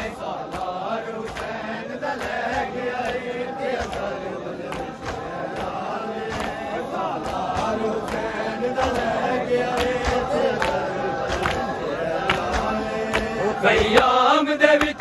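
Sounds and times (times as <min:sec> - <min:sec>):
hands slapping on chests: 0:00.0 - 0:14.2, 0:14.8 - 0:15.0
men chanting together: 0:00.0 - 0:15.0.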